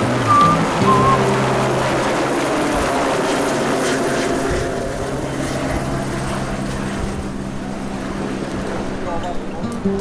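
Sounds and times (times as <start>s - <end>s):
helicopter drone: 0.0s - 10.0s.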